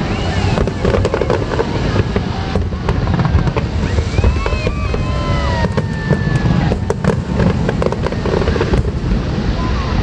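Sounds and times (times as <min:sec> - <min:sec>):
fireworks booms and cracks: 0:00.0 - 0:10.0.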